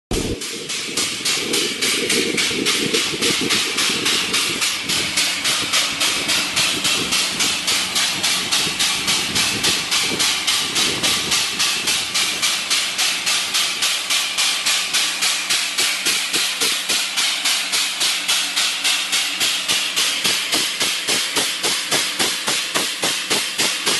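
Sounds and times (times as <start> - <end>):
air exhaust hissing puffs: 0.1 - 23.9
diaphragm pump cycling: 0.1 - 23.9.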